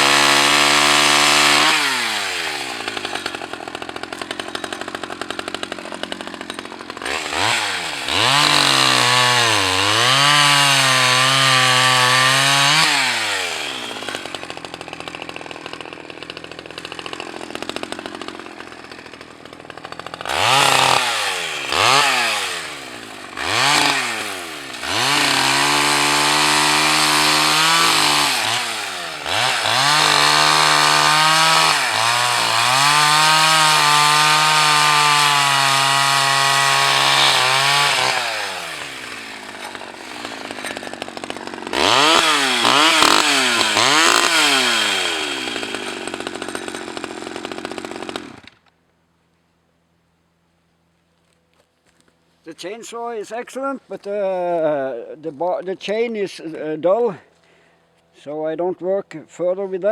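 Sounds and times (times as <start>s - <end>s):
chainsaw revving and cutting branches: 0.0s - 48.8s.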